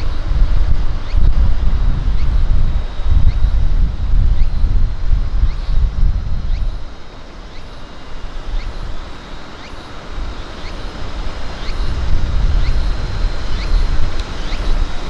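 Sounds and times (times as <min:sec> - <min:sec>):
wind buffeting microphone: 0:00.0 - 0:07.2, 0:08.1 - 0:15.0.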